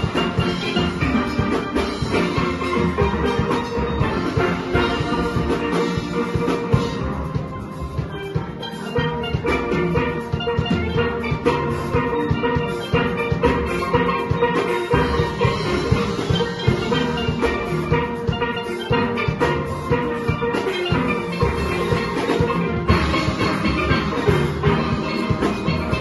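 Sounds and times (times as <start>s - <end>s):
drum and percussion rhythm: 0.0s - 26.0s
steelpans playing soca melody: 0.0s - 26.0s.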